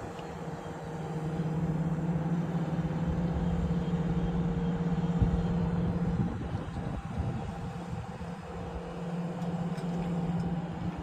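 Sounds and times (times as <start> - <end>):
crane engine humming: 0.0 - 11.0.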